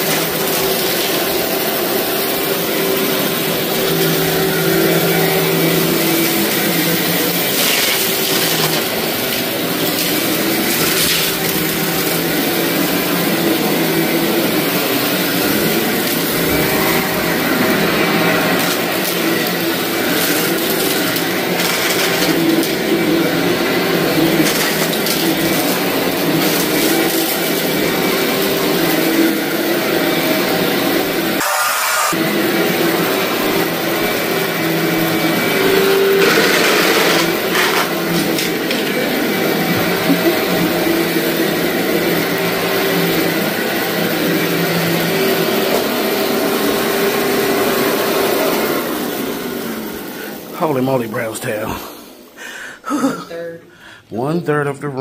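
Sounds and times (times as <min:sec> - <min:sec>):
vacuum cleaner running: 0:00.0 - 0:54.6.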